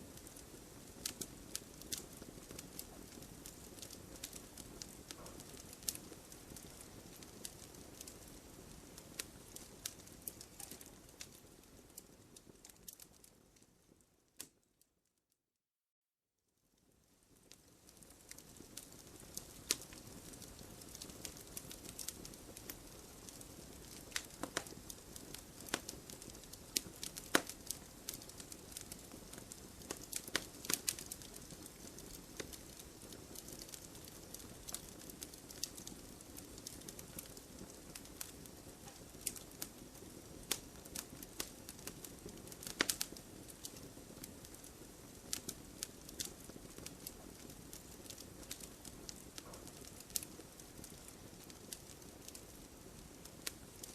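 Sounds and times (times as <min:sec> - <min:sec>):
campfire crackling and popping: 0:00.0 - 0:14.6, 0:16.8 - 0:53.9
soft hiss of flames: 0:00.0 - 0:14.8, 0:16.5 - 0:53.9.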